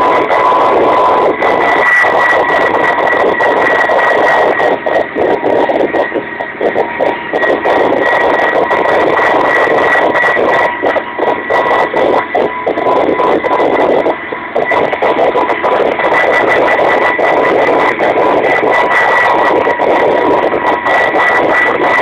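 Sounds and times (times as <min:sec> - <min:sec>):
helicopter engines and rotors: 0:00.0 - 0:22.0
steady high whine: 0:00.0 - 0:22.0.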